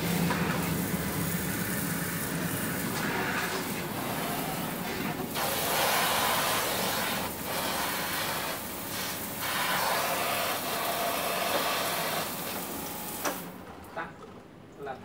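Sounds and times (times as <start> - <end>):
water spraying from shower head: 0.7 - 13.4.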